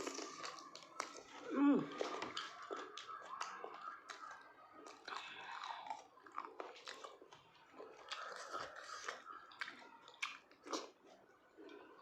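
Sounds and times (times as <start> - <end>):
person chewing meat: 0.0 - 12.0.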